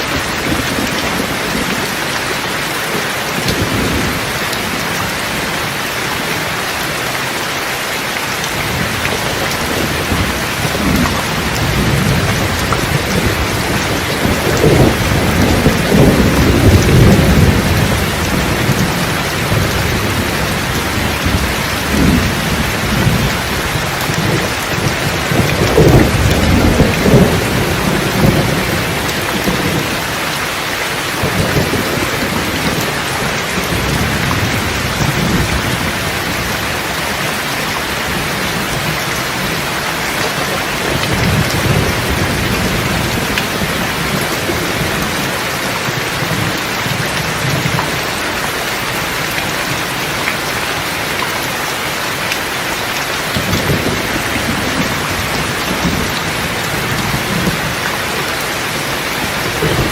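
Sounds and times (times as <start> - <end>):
thunder rumbling: 0.0 - 5.8, 8.3 - 51.2, 52.1 - 59.9
heavy rain hiss: 0.0 - 59.9.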